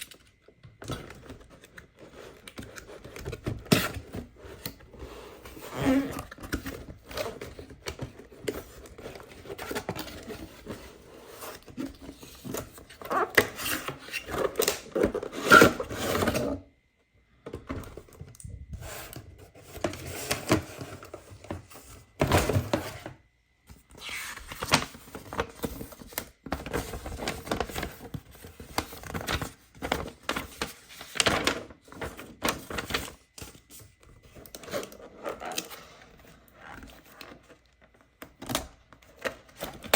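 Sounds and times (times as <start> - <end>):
cardboard and plastic packaging rustling: 0.0 - 16.7, 17.4 - 39.9.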